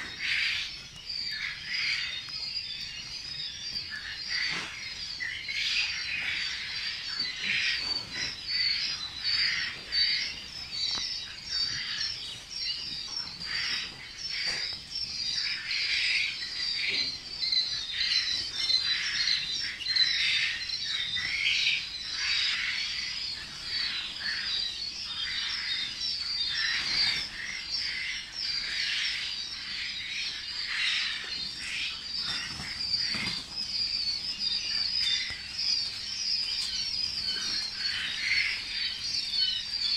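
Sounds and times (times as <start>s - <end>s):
quail chicks peeping and chirping: 0.0s - 39.9s.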